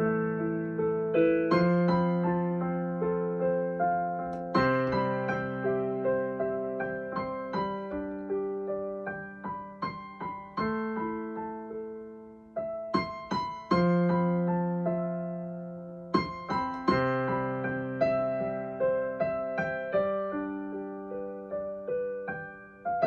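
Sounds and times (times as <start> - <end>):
slow soft piano improvisation: 0.0 - 23.0.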